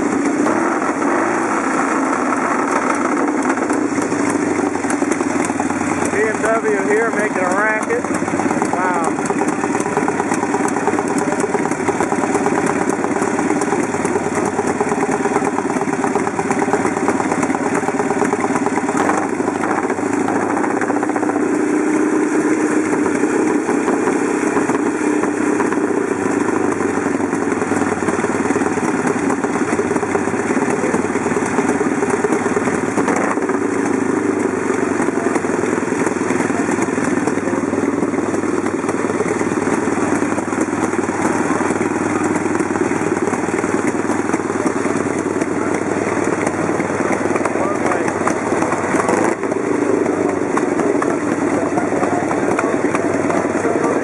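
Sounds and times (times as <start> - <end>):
motorcycle engines idling: 0.0 - 54.0.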